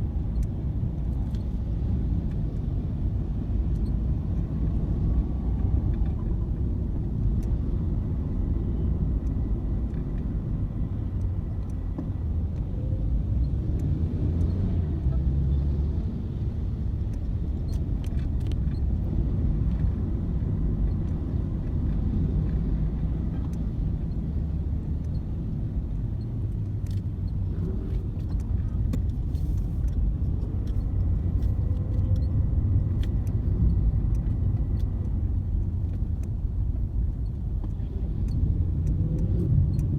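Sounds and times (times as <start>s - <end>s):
car engine and road noise: 0.0s - 39.9s
faint light ticks: 0.2s - 7.7s, 9.2s - 15.3s, 16.7s - 39.9s.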